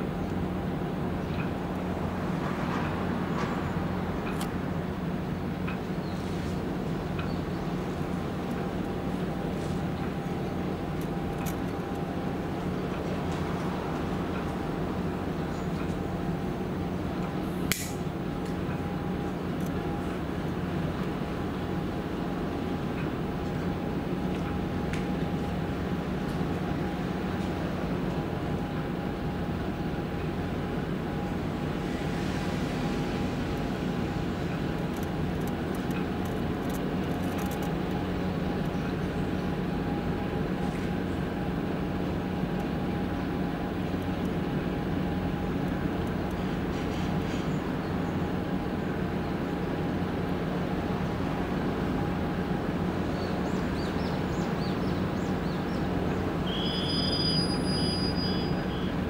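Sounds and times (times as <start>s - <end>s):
low machinery hum: 0.0s - 59.0s.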